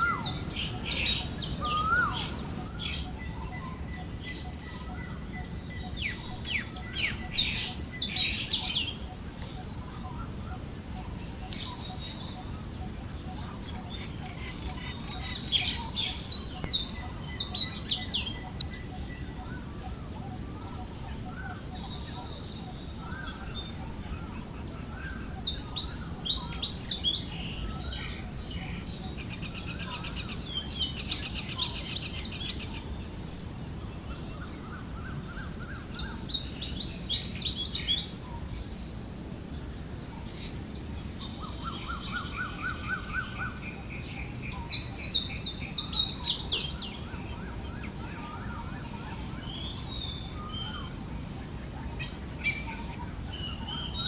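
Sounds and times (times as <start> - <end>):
forest birds chirping: 0.0 - 54.0
low breeze: 0.0 - 54.0.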